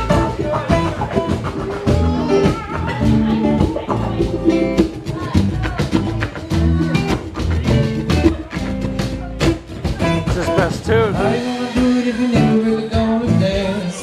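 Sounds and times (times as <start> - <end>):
live latin band playing: 0.0 - 14.0
person singing: 0.0 - 14.0
strummed guitar: 0.0 - 14.0.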